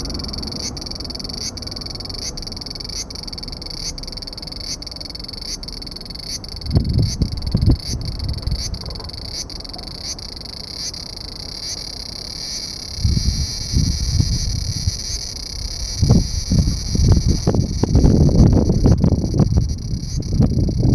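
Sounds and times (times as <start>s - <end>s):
low rumbles: 0.0s - 9.5s, 12.8s - 20.9s
cicada buzzing: 0.0s - 20.9s
faint regular pulses: 0.0s - 20.9s.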